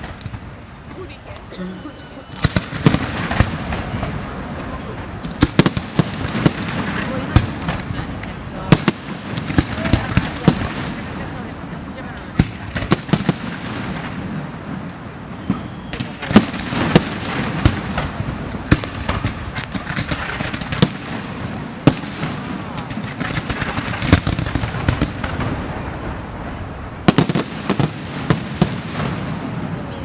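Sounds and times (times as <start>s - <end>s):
firework pops and crackles: 0.0s - 1.5s, 2.3s - 30.0s
firework shells bursting: 1.4s - 26.2s.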